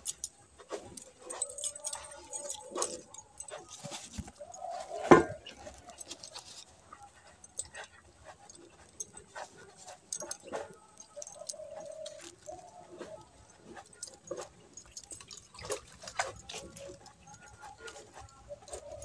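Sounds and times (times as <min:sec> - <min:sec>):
milking clicks and bangle clinks: 0:00.0 - 0:19.0.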